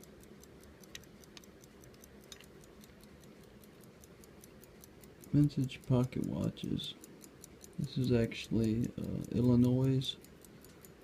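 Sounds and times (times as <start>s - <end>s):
pocket watch ticking: 0.0s - 11.0s.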